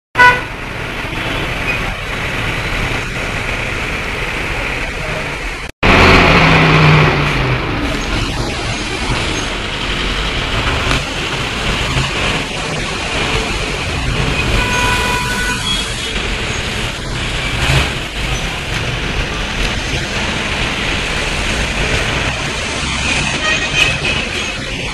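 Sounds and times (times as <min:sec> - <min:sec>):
road traffic engines: 0:00.2 - 0:24.9.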